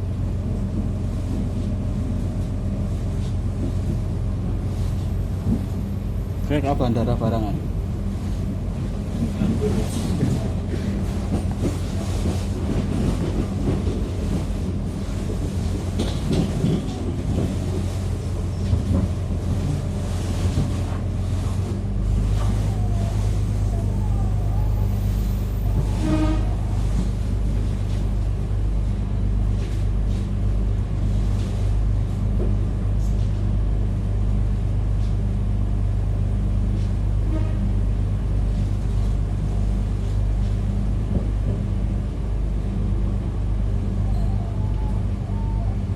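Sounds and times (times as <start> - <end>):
train hum from on board: 0.0 - 45.9.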